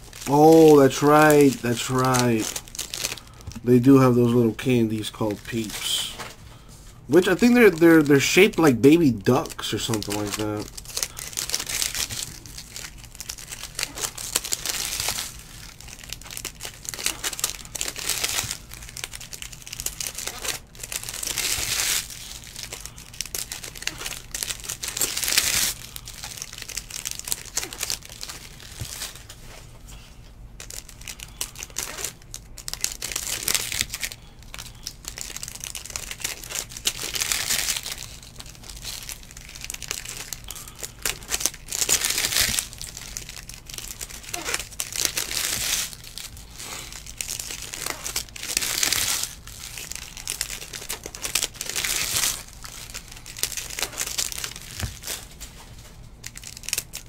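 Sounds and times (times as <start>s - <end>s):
card pack wrappers crinkling and tearing: 0.0s - 57.0s.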